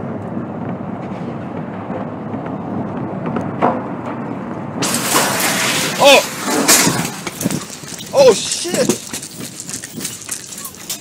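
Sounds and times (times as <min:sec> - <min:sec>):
tornado wind roar: 0:00.0 - 0:10.4.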